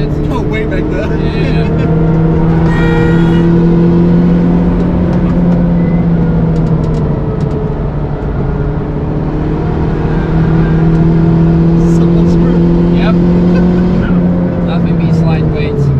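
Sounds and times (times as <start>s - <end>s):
car engine pulling hard: 0.0s - 15.9s.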